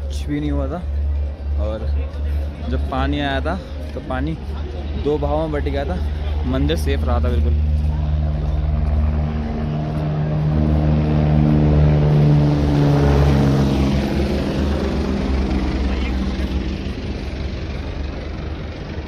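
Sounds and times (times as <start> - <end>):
helicopter flying past: 3.6 - 19.0.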